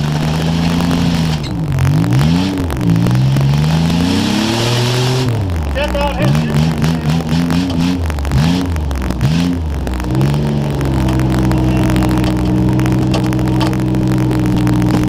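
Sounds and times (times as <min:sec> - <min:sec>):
car engine revving: 0:00.0 - 0:15.0
crackling microphone static: 0:00.0 - 0:15.0.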